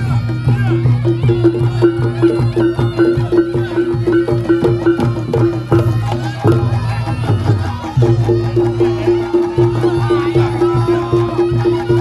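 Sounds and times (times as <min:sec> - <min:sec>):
drums and small gongs: 0:00.0 - 0:12.0.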